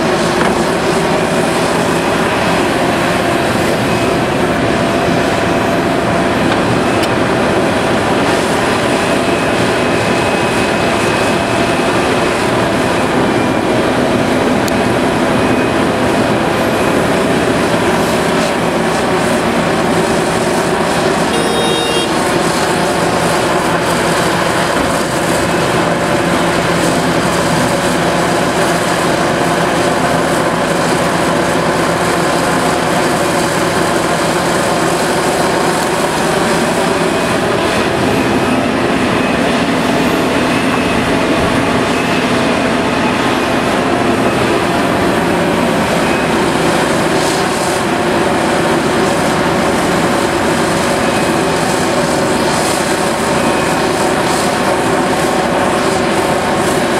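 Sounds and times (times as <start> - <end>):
heavy diesel engines working: 0.0 - 56.9.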